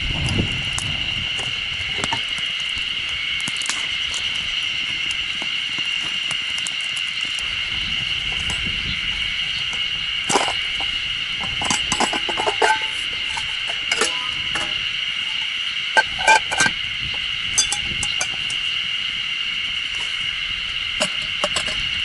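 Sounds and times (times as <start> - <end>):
campfire crackling and popping: 0.0 - 22.0
steady high-pitched hum: 0.0 - 22.0.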